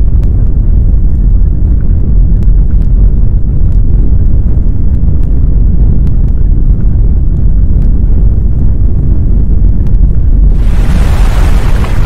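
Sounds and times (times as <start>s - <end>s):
earthquake rumble: 0.0s - 12.0s.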